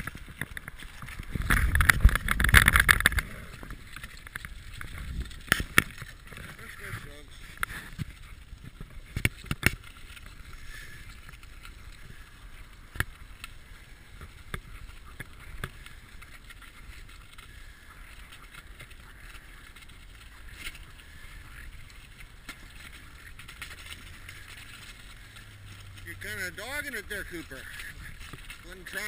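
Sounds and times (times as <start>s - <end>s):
sled knocks and bumps: 0.0s - 29.0s.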